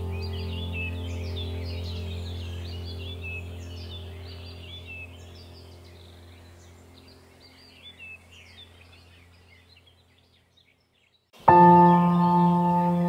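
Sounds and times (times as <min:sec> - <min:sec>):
low steady drone: 0:00.0 - 0:09.5, 0:11.5 - 0:13.0
birds chirping and whistling: 0:00.0 - 0:13.0.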